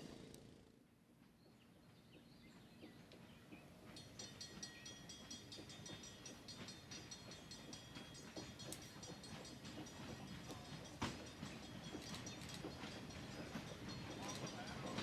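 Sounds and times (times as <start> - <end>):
passenger train rumbling on rails: 2.3 - 15.0.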